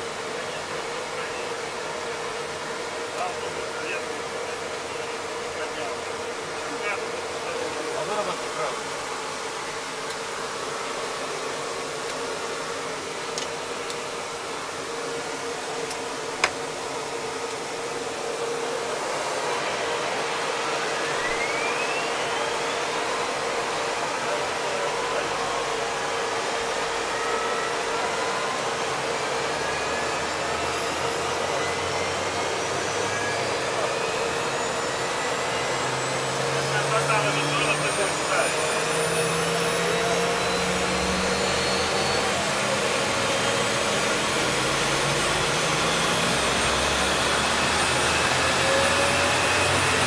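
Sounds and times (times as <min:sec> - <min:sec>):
helicopter turbine whine: 0:00.0 - 0:50.0.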